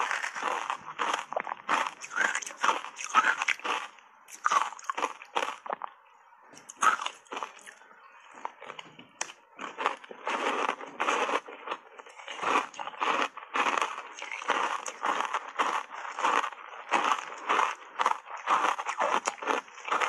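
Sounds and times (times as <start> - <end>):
ice chunks crunching: 0.0 - 5.9, 8.5 - 20.0.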